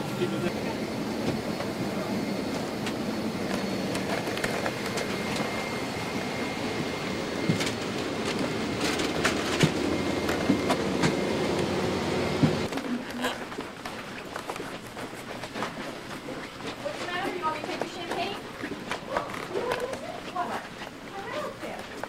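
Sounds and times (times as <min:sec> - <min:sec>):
airliner cabin hum: 0:00.0 - 0:22.0.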